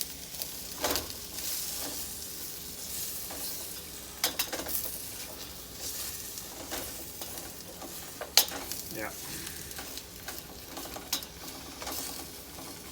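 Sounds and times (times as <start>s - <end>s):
onions sizzling in pan: 0.0s - 12.9s.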